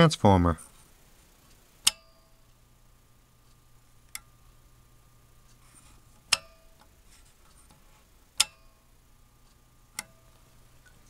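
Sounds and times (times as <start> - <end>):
faint transformer hum: 0.0 - 11.0.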